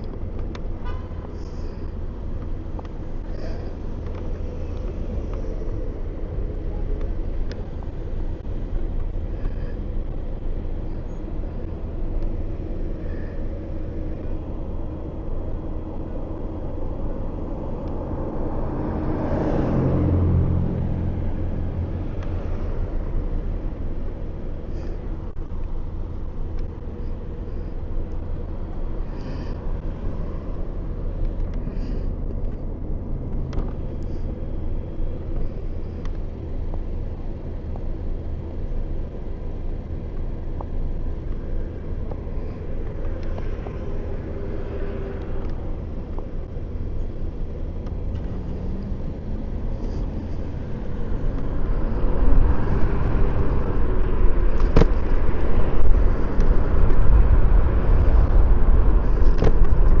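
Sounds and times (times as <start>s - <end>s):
low wind rumble: 0.0s - 60.0s
road noise: 0.0s - 60.0s.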